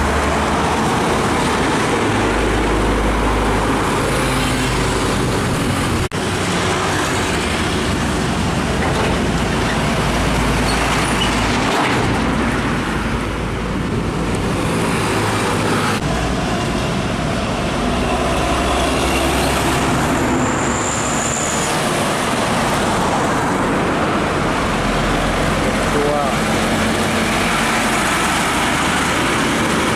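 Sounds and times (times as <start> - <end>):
diesel trucks driving past: 0.0 - 29.9
highway traffic noise: 0.0 - 29.9.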